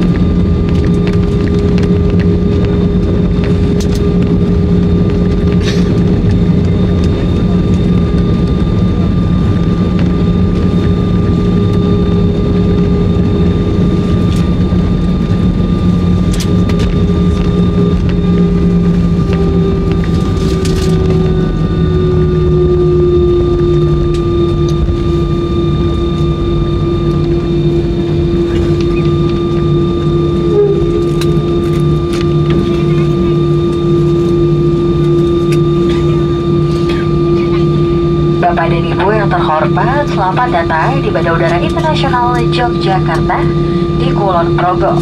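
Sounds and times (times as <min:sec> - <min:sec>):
airliner cabin engine rumble: 0:00.0 - 0:45.0
steady tonal hum: 0:00.0 - 0:45.0.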